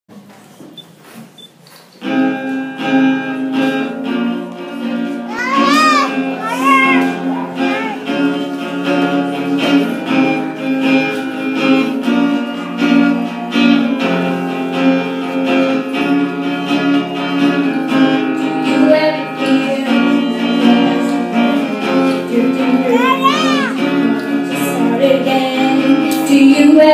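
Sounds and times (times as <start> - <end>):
acoustic guitar strumming chords: 2.0 - 26.9.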